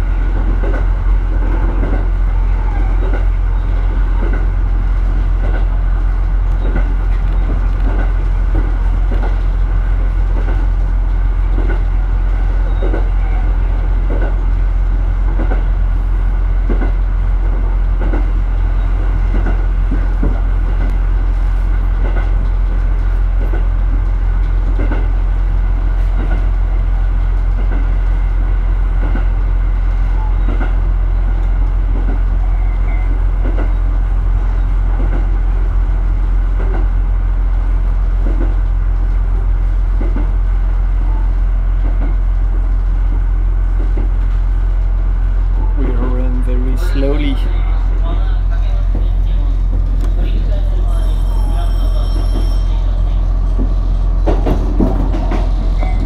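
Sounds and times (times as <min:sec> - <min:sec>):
railcar engine rumble: 0:00.0 - 0:56.0.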